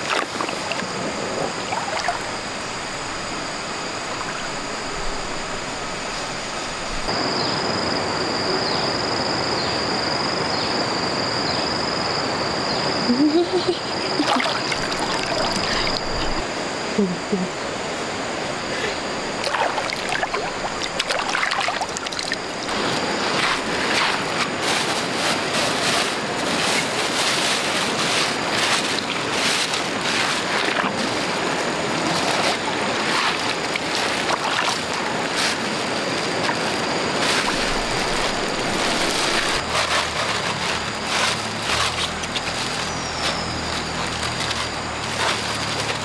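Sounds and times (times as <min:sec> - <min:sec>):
water splashing and gurgling: 0:00.0 - 0:07.1, 0:13.9 - 0:16.4, 0:18.5 - 0:46.0
stream water rushing: 0:00.0 - 0:08.1, 0:13.8 - 0:46.0.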